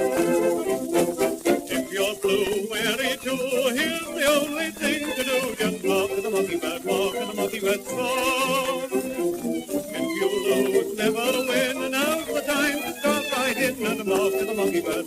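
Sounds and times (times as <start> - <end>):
dance orchestra on old record: 0.0 - 15.0.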